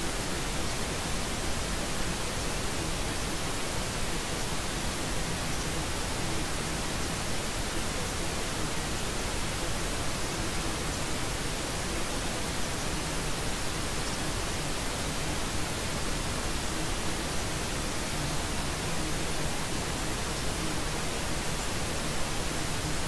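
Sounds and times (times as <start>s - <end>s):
white noise hiss: 0.0s - 23.0s.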